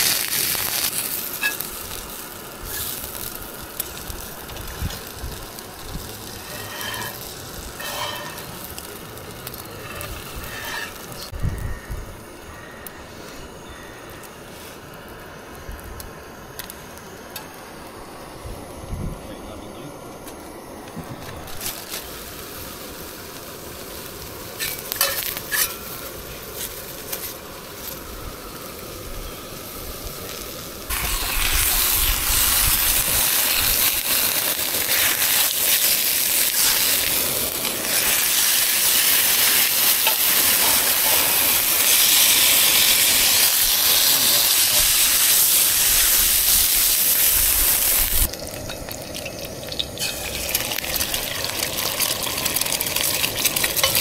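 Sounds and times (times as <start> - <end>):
food sizzling in a pan: 0.0 - 11.9, 21.4 - 54.0.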